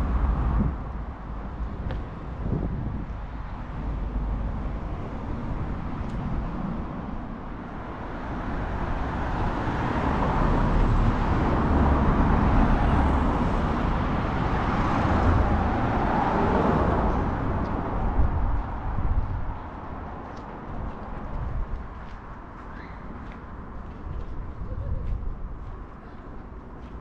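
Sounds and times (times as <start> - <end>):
passing vehicle engine and tyres: 0.0 - 23.8.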